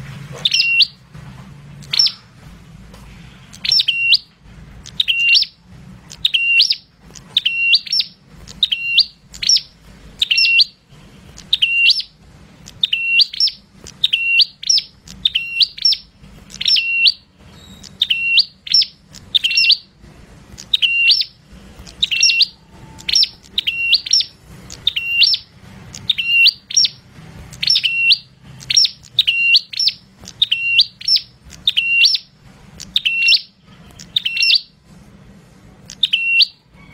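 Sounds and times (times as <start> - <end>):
bird chirping sharply: 0.4 - 1.0, 1.8 - 2.4, 3.2 - 34.8, 35.8 - 36.9.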